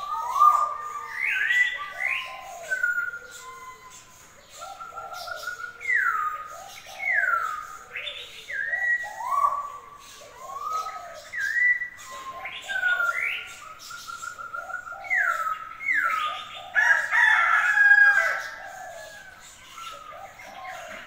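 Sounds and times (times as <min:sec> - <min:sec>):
songbirds whistling: 0:00.0 - 0:21.0.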